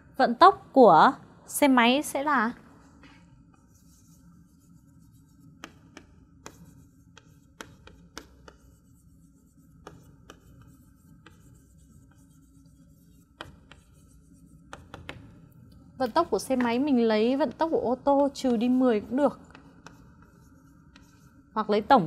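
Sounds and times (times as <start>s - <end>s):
chalk tapping on board: 3.0s - 21.5s
chalk scratching on chalkboard: 3.0s - 22.0s.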